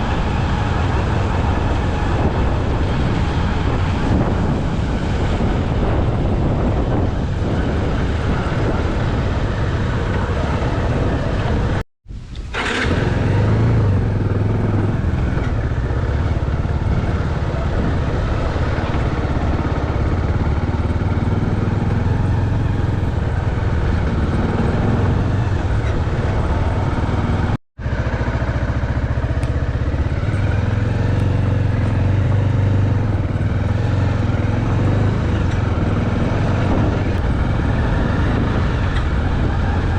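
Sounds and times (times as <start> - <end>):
motorcycle engine running: 0.0 - 11.8, 12.5 - 39.9.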